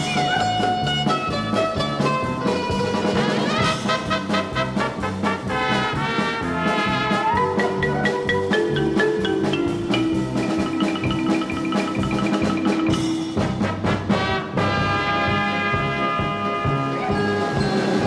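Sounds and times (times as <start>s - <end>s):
upbeat instrumental music: 0.0s - 18.0s.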